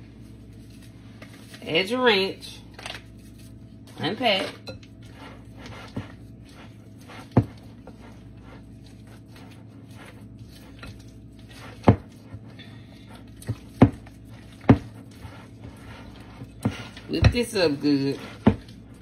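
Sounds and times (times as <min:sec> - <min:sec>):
spatula scraping and squishing: 0:02.8 - 0:19.0.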